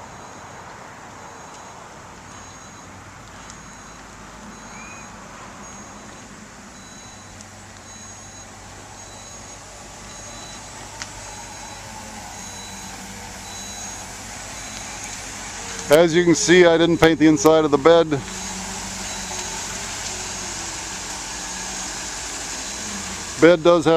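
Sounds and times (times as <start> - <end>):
truck backup alarm beeping: 0.0 - 23.9
truck engine humming: 0.0 - 23.9.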